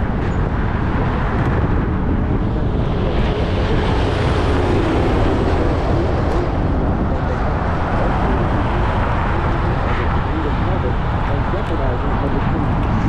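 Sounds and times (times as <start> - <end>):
bike road noise: 0.0 - 13.0
wind rumbling on microphone: 0.0 - 13.0.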